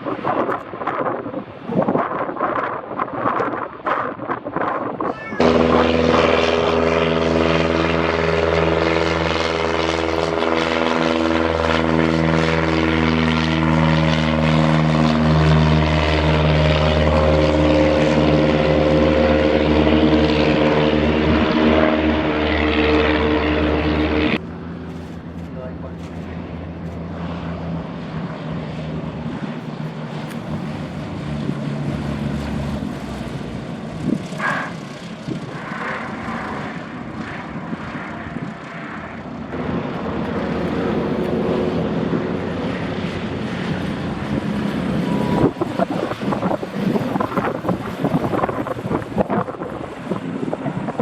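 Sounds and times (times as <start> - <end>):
propeller airplane engine running: 0.0 - 51.0
wind buffeting microphone: 0.0 - 51.0.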